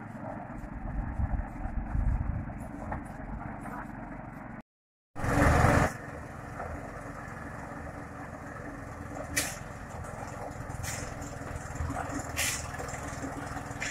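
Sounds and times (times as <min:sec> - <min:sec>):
engine idling with low hum: 0:00.0 - 0:04.6, 0:05.2 - 0:13.9.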